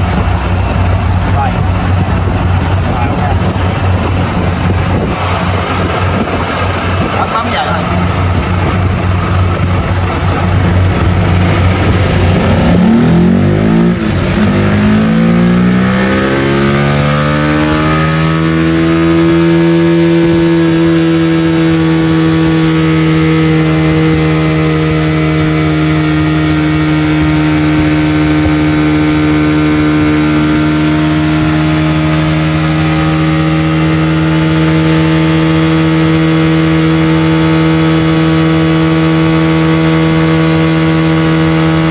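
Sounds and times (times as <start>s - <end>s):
scooter engine revving: 0.0s - 41.9s.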